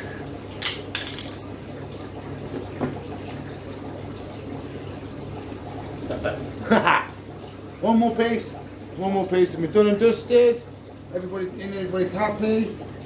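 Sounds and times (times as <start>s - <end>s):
faint running water: 0.0s - 13.0s.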